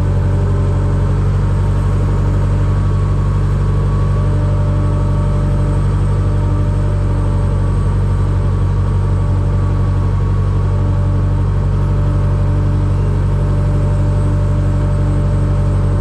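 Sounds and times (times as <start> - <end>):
tug engine low drone: 0.0 - 16.0.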